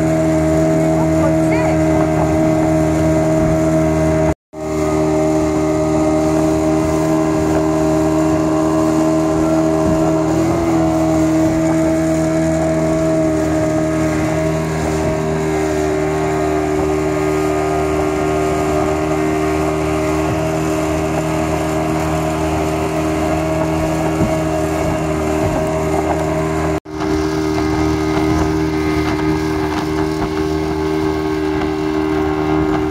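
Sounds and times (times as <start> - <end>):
rush of wind and water: 0.0 - 32.9
speedboat engine drone: 0.0 - 32.9.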